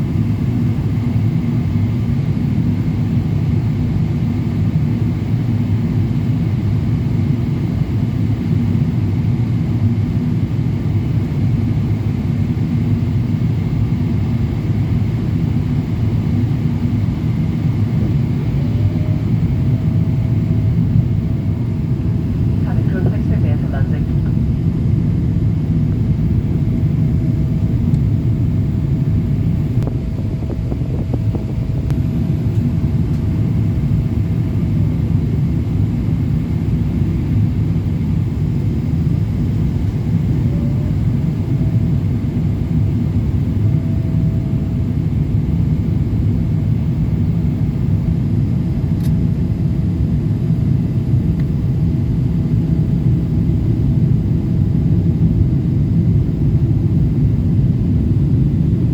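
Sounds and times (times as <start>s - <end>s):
airliner engine and airflow rumble: 0.0s - 58.9s
faint steady whine: 0.0s - 58.9s.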